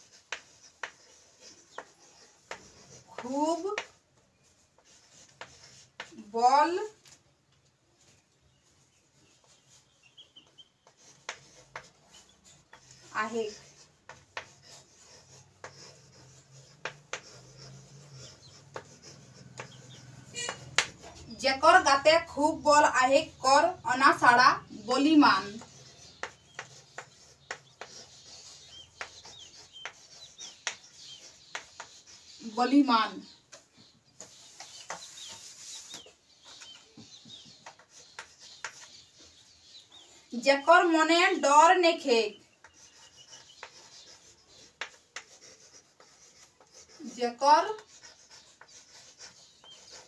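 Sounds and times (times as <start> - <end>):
chalk tapping on board: 0.0 - 6.3, 10.4 - 22.6, 23.2 - 32.6, 33.5 - 39.8, 42.3 - 50.0
chalk scratching on blackboard: 0.0 - 7.1, 9.1 - 50.0
birds chirping: 7.7 - 50.0.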